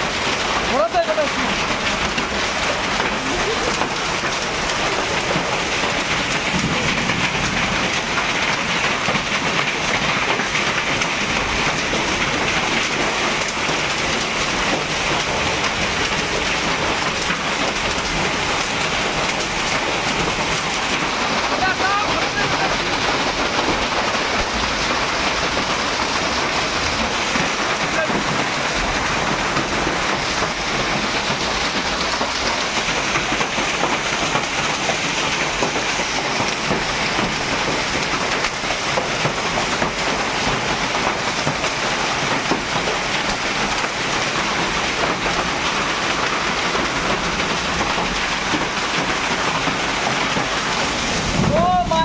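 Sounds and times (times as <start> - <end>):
heavy rain and hail falling: 0.0 - 52.0.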